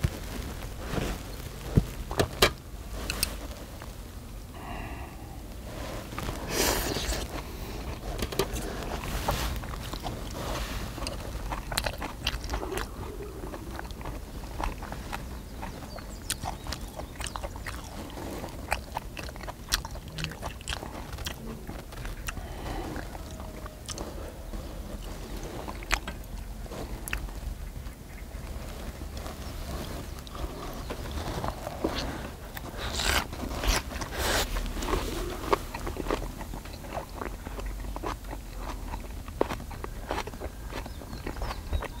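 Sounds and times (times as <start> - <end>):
chewing and mouth sounds: 3.0 - 3.4, 4.6 - 42.0.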